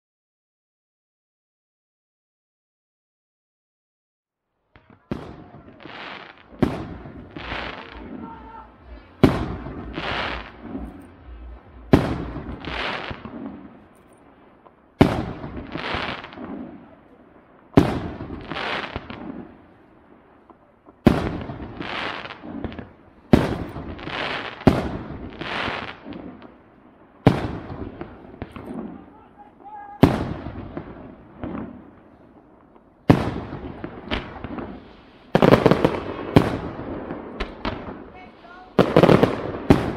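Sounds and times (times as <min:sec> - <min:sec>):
fireworks bangs with echo: 0:04.8 - 0:39.9.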